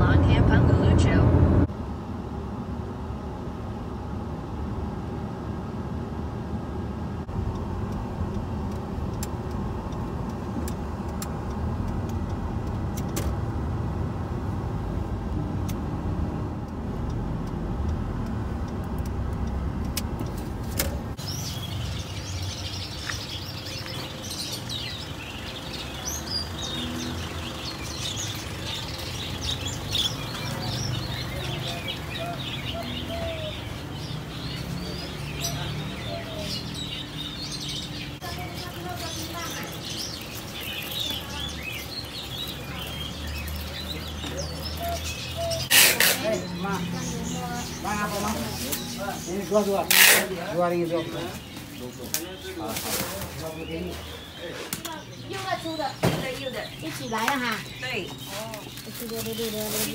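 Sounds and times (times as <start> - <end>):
car road and engine rumble: 0.0 - 59.9
caged birds chirping: 6.0 - 59.9.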